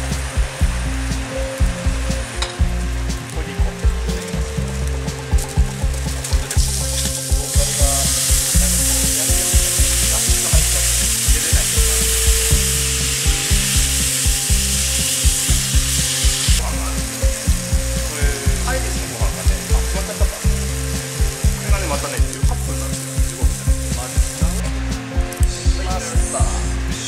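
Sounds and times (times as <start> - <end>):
fish sizzling in a frying pan: 0.0 - 26.6
background music with steady beat: 0.0 - 27.0.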